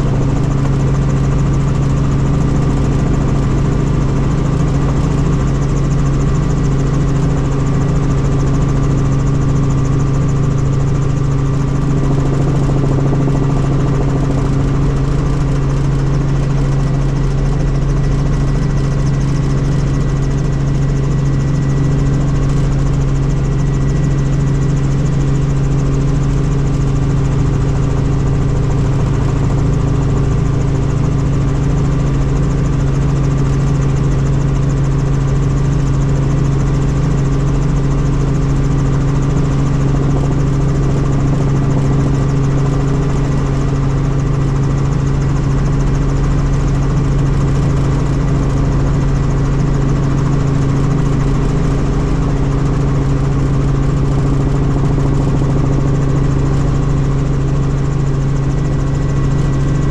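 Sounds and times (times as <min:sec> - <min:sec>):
helicopter engine and rotors drone: 0:00.0 - 0:59.9.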